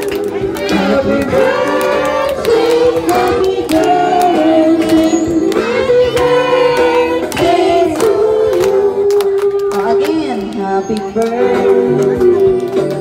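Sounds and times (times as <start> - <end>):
children clapping: 0.0 - 13.0
music with singing: 0.0 - 13.0.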